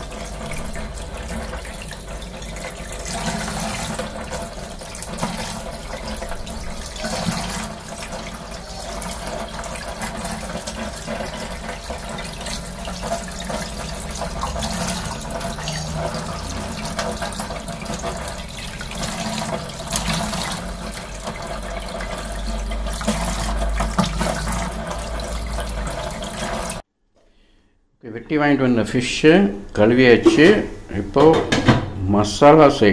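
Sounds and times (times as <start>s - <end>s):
tap water running into sink: 0.0s - 26.8s, 31.2s - 31.8s
water splashing: 0.0s - 26.8s.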